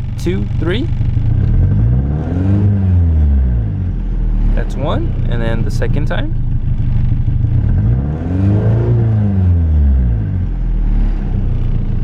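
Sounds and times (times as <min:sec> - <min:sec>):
car engine revving from idle: 0:00.0 - 0:12.0.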